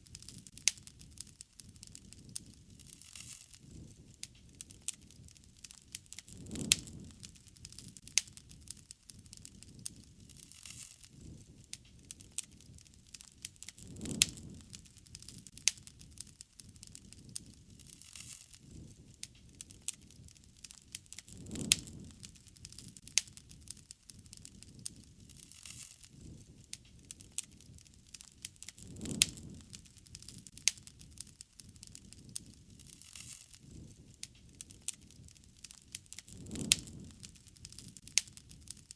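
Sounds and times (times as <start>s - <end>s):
campfire crackling: 0.0s - 38.9s
low rush of flame: 0.0s - 38.9s.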